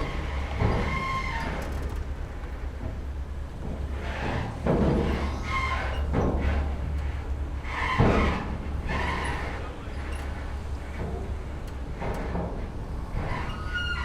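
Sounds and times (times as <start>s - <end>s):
creaks and clatter: 0.0s - 14.0s
ship engines rumbling: 0.0s - 14.0s.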